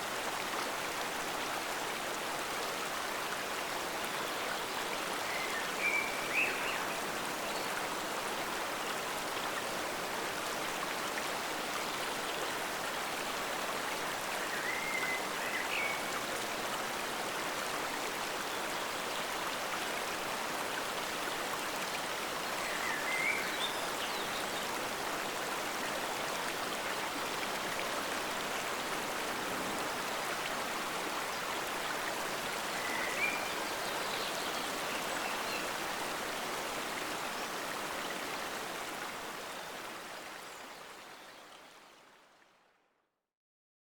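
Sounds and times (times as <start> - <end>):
stream water flowing: 0.0 - 42.7.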